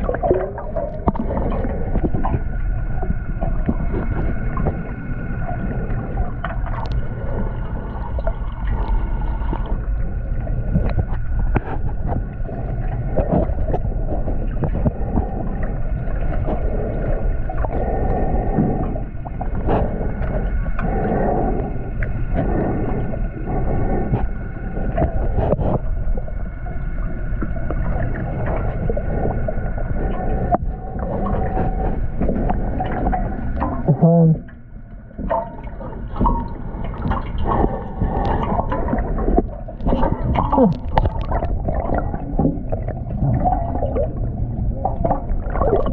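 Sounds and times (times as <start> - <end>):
low underwater rumble: 0.0 - 45.9.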